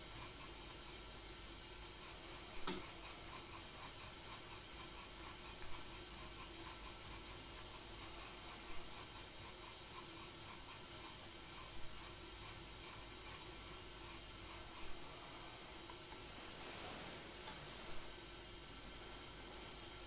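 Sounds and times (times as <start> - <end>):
kettle simmering with soft hiss: 0.0 - 20.0
tea whisk brushing in bowl: 1.8 - 18.2.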